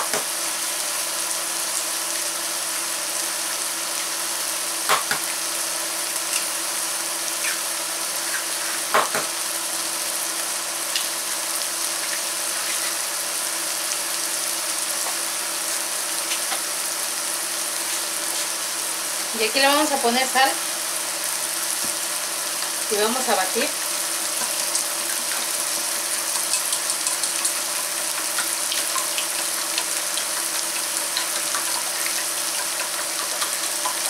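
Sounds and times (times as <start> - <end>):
vegetables sizzling in a pan: 0.0 - 34.0.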